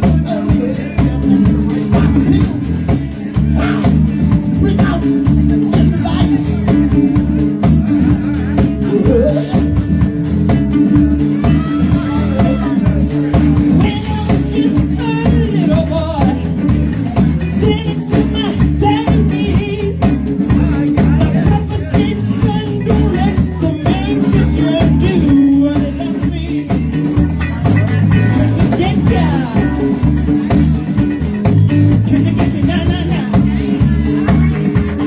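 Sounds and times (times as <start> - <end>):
drum kit: 0.0 - 35.0
live rock band playing: 0.0 - 35.0
person singing: 0.0 - 35.0.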